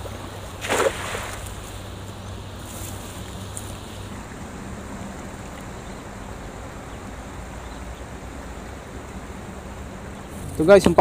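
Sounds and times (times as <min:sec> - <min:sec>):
river water flowing: 0:00.0 - 0:11.0
wind: 0:00.0 - 0:11.0.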